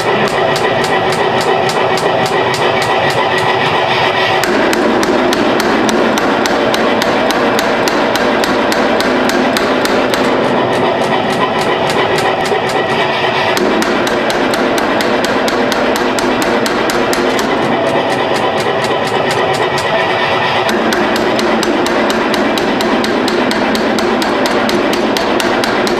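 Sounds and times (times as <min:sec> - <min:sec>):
power hammer pounding steel: 0:00.0 - 0:25.9
steady machine noise: 0:00.0 - 0:25.9.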